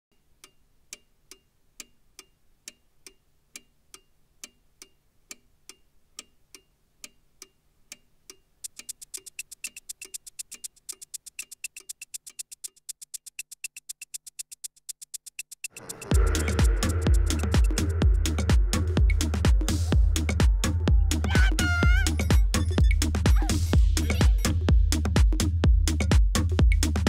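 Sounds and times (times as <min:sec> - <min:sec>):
clock ticking: 0:00.1 - 0:27.0.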